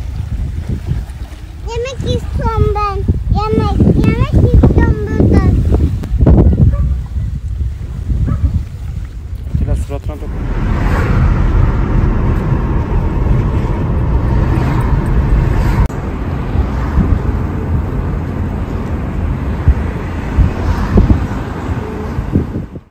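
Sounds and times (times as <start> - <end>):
car road and wind noise: 0.0 - 22.9.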